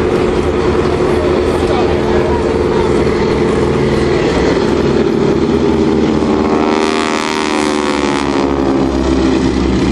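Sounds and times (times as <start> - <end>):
biplane radial engine passing: 0.0 - 9.9.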